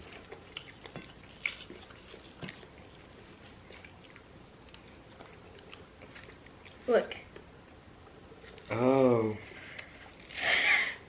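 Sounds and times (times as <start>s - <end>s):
faint chewing: 0.0s - 8.8s, 9.5s - 10.7s.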